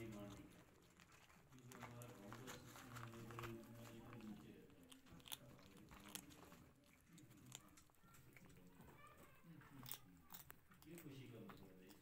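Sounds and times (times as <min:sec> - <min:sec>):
kittens crunching dry kibble: 0:00.0 - 0:12.0.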